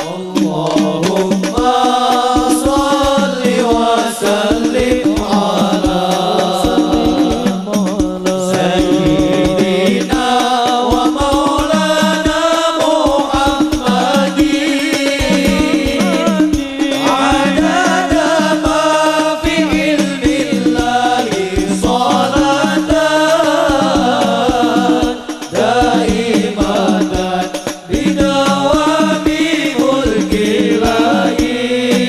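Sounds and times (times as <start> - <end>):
frame drums beating: 0.0 - 32.0
men singing into microphones: 0.0 - 32.0.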